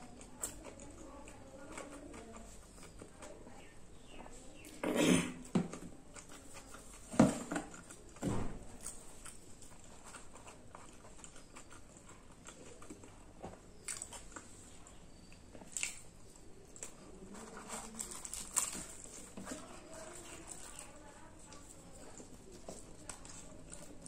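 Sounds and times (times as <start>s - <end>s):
person chewing food: 0.0s - 3.4s, 5.4s - 24.0s.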